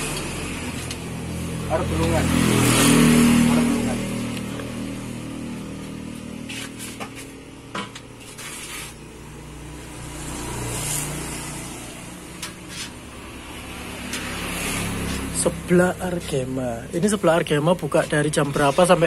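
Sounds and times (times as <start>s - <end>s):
vehicles passing on road: 0.0s - 19.0s.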